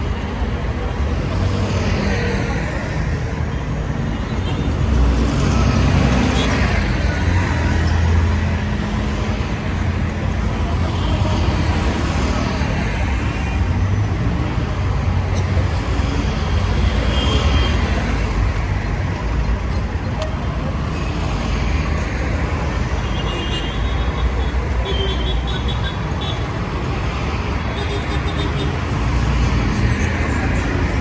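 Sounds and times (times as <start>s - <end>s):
road traffic driving past: 0.0s - 31.0s.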